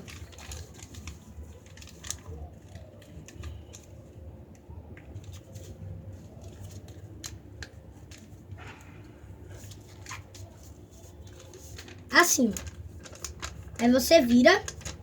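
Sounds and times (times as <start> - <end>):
paper being folded and creased: 0.0 - 15.0.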